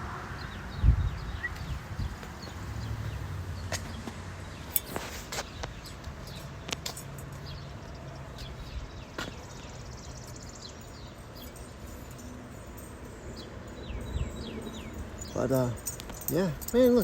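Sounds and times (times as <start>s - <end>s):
low outdoor background: 0.0s - 17.0s
birds chirping: 0.3s - 17.0s.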